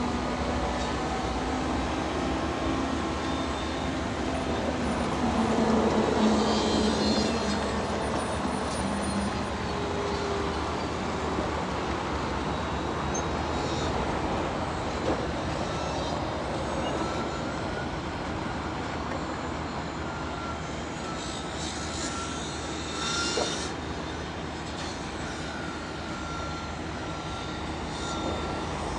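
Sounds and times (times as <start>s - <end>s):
construction machinery engine droning: 0.0s - 28.9s.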